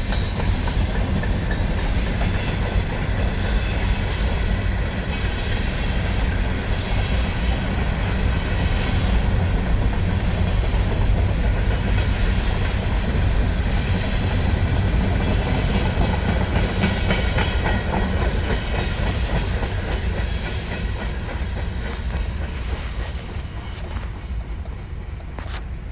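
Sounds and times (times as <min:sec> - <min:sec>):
wheels clicking over rail joints: 0:00.0 - 0:25.6
freight train cars rolling past: 0:00.0 - 0:25.9.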